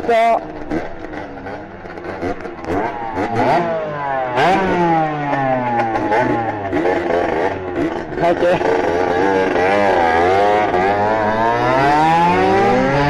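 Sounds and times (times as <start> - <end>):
moped engine revving: 0.0 - 13.0.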